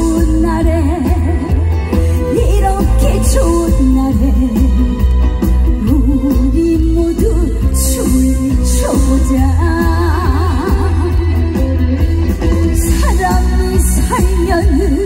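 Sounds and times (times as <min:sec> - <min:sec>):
woman singing with vibrato: 0:00.0 - 0:11.8, 0:12.6 - 0:15.0
band with heavy bass: 0:00.0 - 0:15.0.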